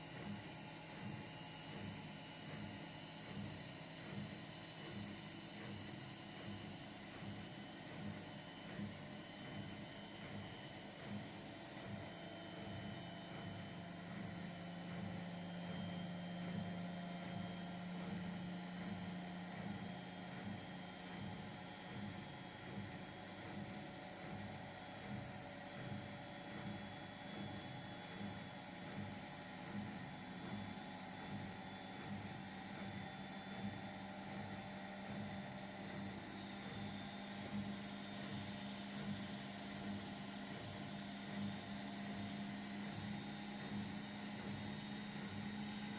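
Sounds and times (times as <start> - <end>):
high-pitched whines: 0.0 - 45.9
washing machine humming: 0.0 - 45.9.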